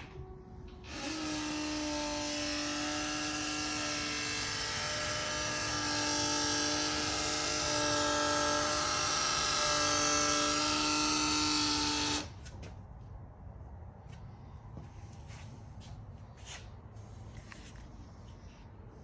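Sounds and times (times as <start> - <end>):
car whirring hum: 0.0 - 16.2.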